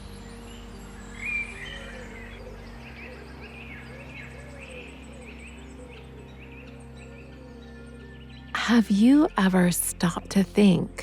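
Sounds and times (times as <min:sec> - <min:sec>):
ambient music drone: 0:00.0 - 0:11.0
songbirds singing and chirping: 0:00.0 - 0:11.0.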